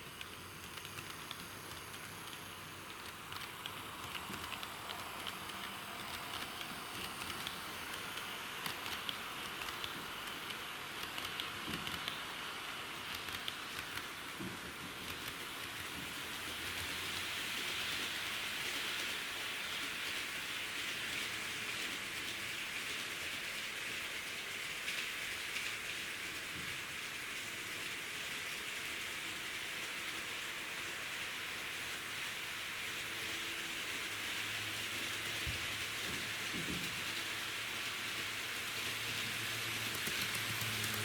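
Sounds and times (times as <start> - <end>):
model train rolling hiss: 0.0 - 41.0.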